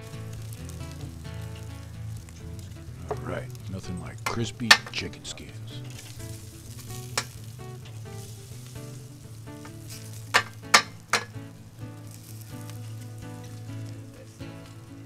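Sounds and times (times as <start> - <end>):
background music: 0.0 - 15.0
food sizzling on grill: 0.0 - 15.0.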